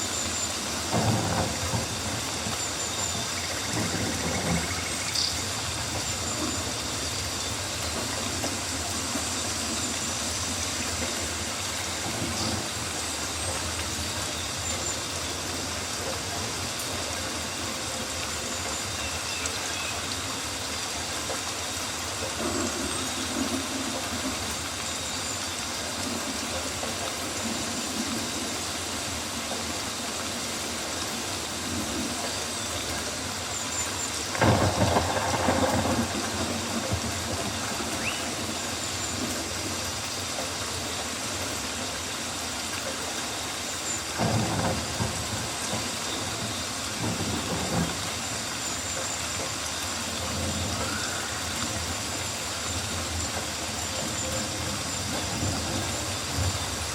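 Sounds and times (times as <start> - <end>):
rain on foliage: 0.0 - 56.9.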